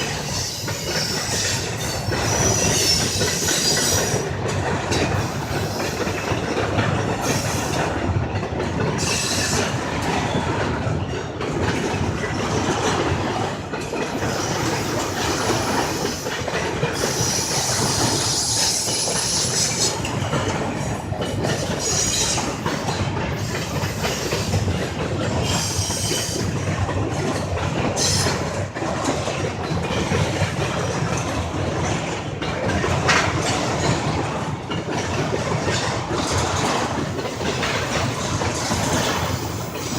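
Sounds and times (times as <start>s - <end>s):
train cars rumbling and clicking: 0.0s - 39.9s.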